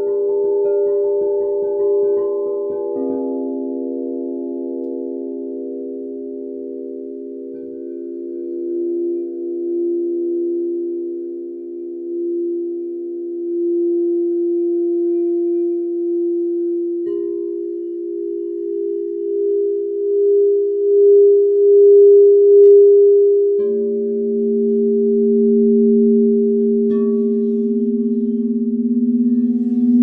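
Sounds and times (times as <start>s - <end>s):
crystal singing bowls ringing: 0.0s - 30.0s
lower-pitched bowl struck: 0.0s - 30.0s.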